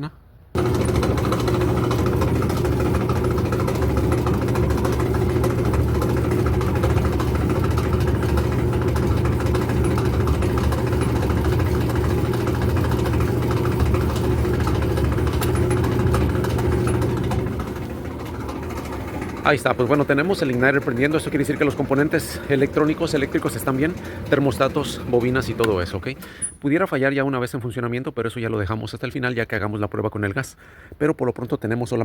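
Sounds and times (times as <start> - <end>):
clothes dryer running: 0.6 - 26.6.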